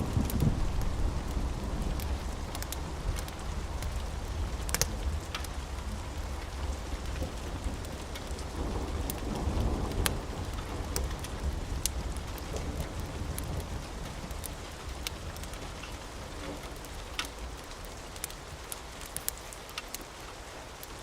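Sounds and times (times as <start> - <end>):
low rumble of thunder: 0.0 - 17.8
steady rain: 0.0 - 21.0.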